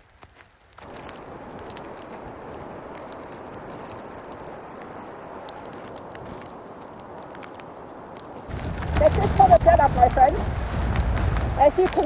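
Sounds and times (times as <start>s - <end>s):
snow ticking on tent: 0.0s - 12.0s
storm wind rushing: 0.9s - 12.0s.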